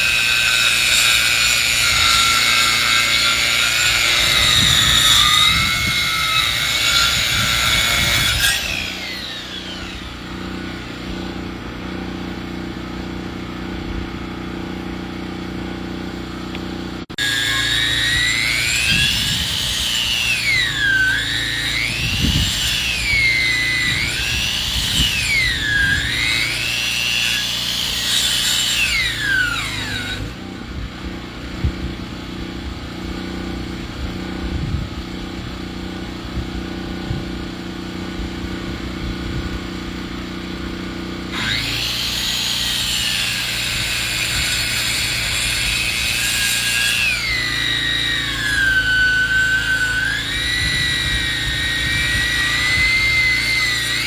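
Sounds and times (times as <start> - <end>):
saw whining cutting wood: 0.0 - 54.0
sawmill engine running: 0.0 - 54.0.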